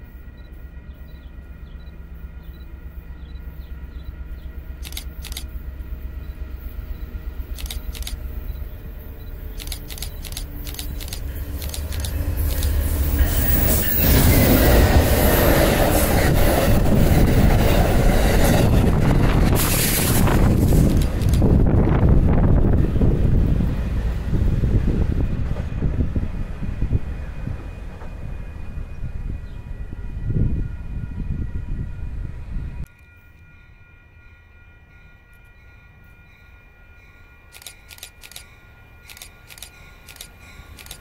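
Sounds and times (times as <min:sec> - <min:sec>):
diesel train passing: 0:00.0 - 0:41.0.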